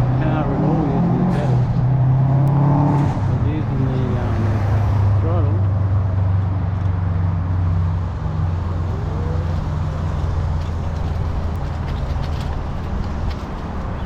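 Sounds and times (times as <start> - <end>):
road and wind noise: 0.0 - 14.0
vehicle engine hum: 0.0 - 14.0.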